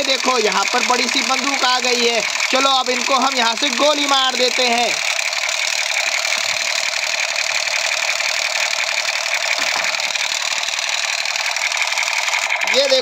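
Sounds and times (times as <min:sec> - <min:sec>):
toy machine gun electronic rattle: 0:00.0 - 0:13.0.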